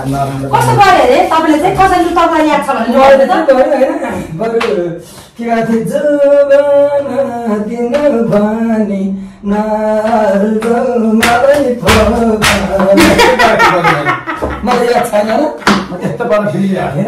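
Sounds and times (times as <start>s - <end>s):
person singing unaccompanied: 0.0s - 15.1s.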